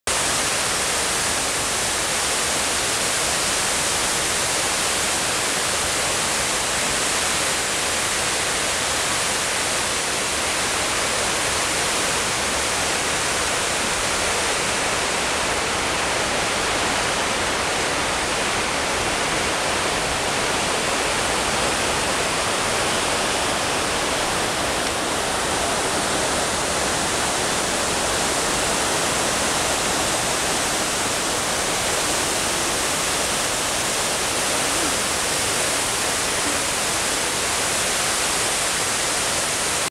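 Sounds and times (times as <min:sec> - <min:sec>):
water falling down stone walls: 0:00.1 - 0:39.9.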